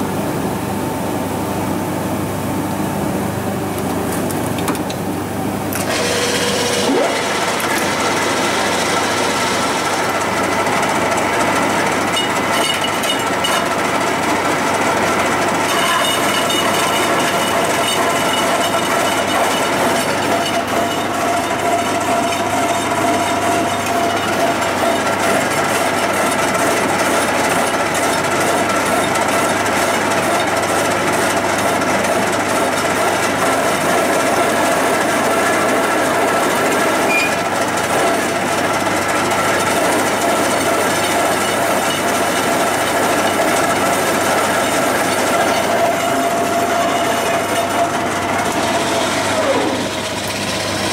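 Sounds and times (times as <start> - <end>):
metal lathe cutting steel: 5.8 - 50.9.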